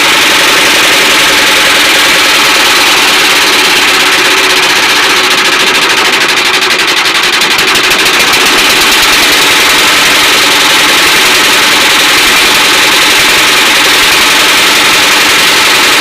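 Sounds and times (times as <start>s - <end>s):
diesel engine running: 0.0s - 16.0s
light engine knock: 0.0s - 16.0s.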